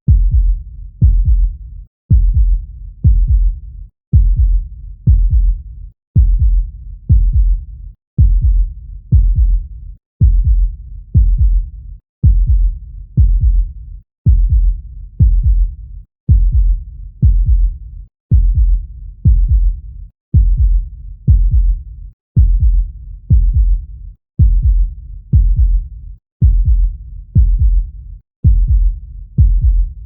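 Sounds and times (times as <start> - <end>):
heartbeat thuds: 0.1 - 5.6, 6.2 - 7.6, 8.2 - 13.7, 14.3 - 19.8, 20.4 - 21.8, 22.4 - 23.8, 24.4 - 30.0.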